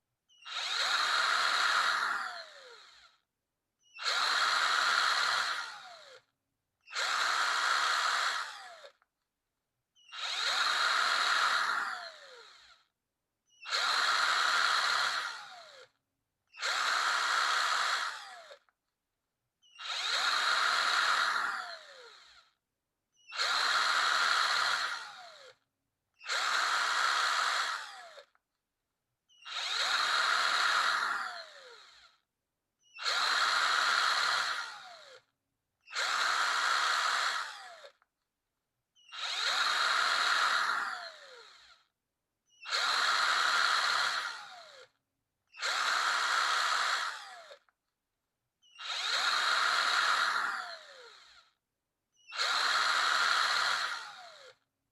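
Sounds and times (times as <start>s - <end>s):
power drill spinning: 0.3s - 3.2s, 3.8s - 6.3s, 6.9s - 9.1s, 10.0s - 12.9s, 13.5s - 18.8s, 19.6s - 28.4s, 29.3s - 38.1s, 39.0s - 41.9s, 42.5s - 47.7s, 48.6s - 51.6s, 52.2s - 54.7s.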